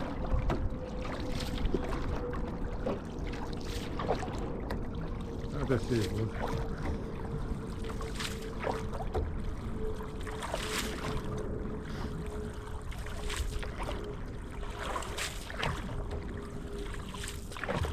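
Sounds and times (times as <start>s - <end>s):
paddle splashes: 0.0s - 17.9s
water splashing around a canoe: 0.0s - 17.9s.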